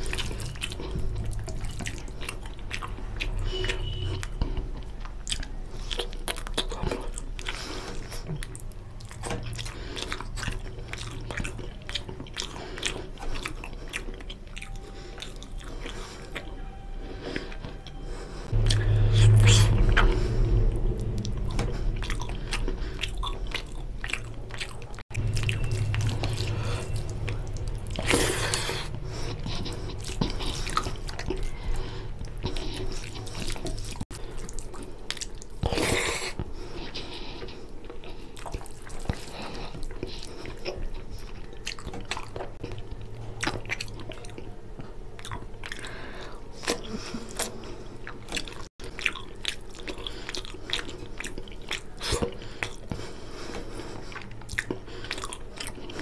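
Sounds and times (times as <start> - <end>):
wet chewing and biting: 0.0 - 56.0.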